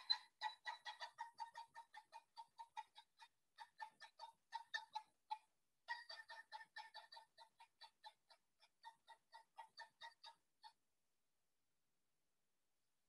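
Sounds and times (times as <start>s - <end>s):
woodpecker calling kuk notes: 0.0s - 10.8s.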